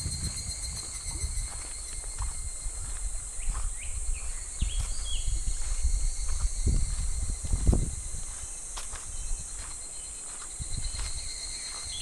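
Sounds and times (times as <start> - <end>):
cicadas singing: 0.0 - 12.0
footsteps crunching on gravel: 0.0 - 12.0.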